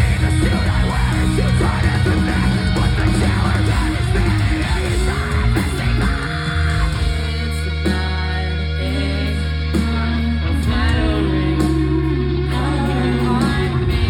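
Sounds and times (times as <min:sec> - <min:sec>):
band playing loud: 0:00.0 - 0:14.0.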